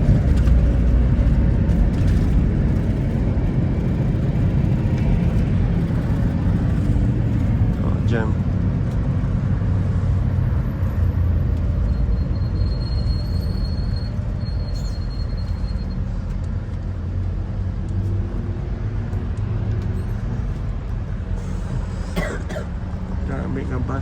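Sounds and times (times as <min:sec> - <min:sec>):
engine and road rumble: 0:00.0 - 0:24.0.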